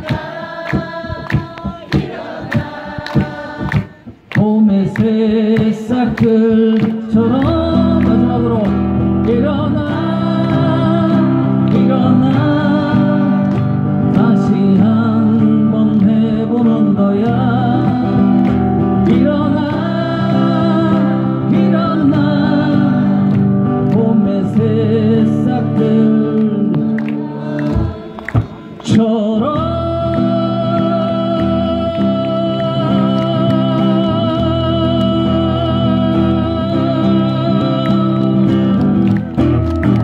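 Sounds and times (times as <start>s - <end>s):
person singing: 0.0s - 39.0s
acoustic guitar strumming: 0.0s - 40.0s.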